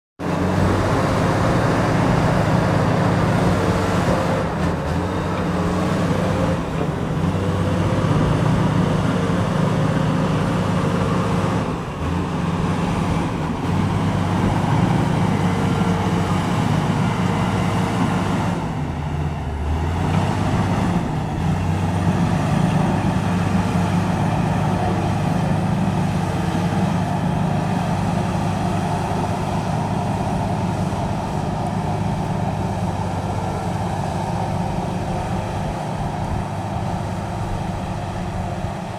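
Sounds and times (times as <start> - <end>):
bulldozer diesel engine running: 0.2 - 38.9.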